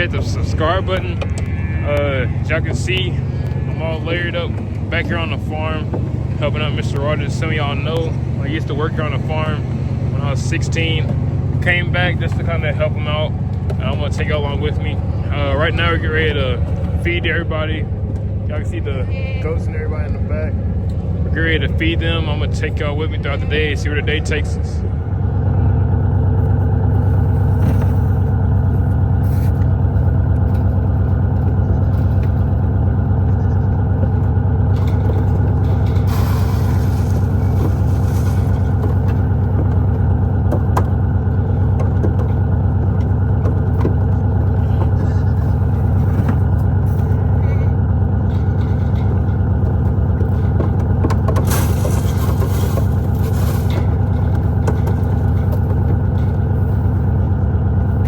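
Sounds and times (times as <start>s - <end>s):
engine humming steadily: 0.0s - 58.0s.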